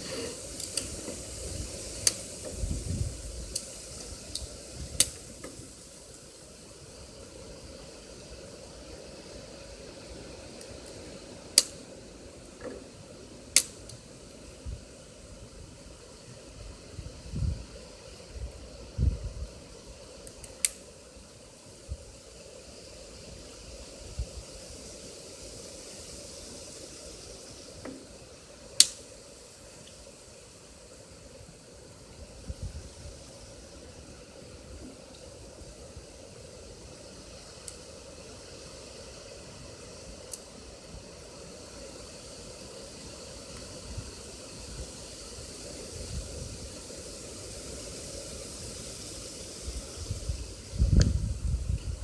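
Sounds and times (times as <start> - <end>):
food hissing on a stove: 0.0 - 52.0.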